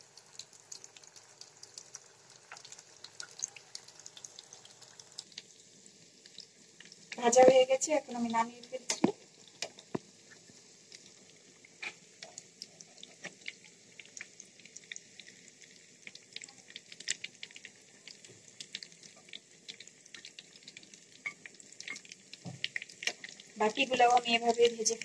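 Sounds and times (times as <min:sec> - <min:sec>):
crackles and pops of frying: 0:00.0 - 0:25.0
oil sizzling in a pan: 0:00.0 - 0:25.0.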